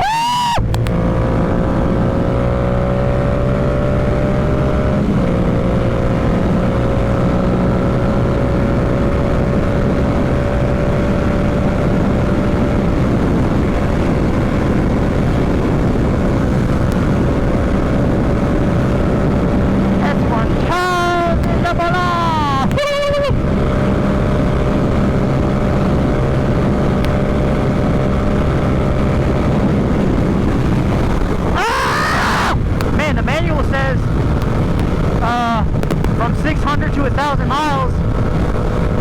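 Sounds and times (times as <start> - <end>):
wind and road noise: 0.0 - 39.0
motorcycle engine running: 0.6 - 39.0.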